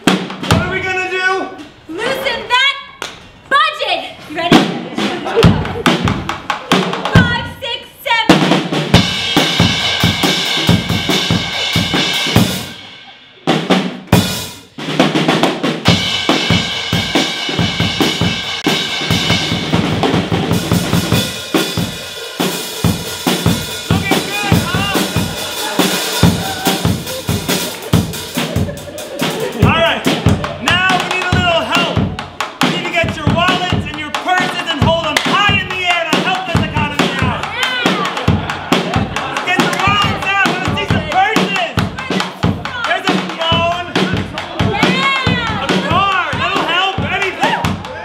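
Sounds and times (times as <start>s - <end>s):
bass drum and snare beat: 0.0s - 1.0s, 4.4s - 48.0s.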